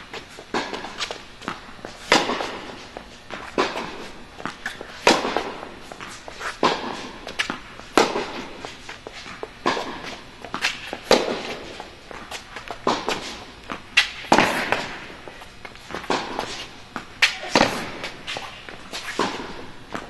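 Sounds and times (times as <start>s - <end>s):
footsteps on court: 0.0s - 20.0s
rackets hitting tennis balls: 0.0s - 20.0s
ball bounces: 0.4s - 8.7s, 9.3s - 20.0s.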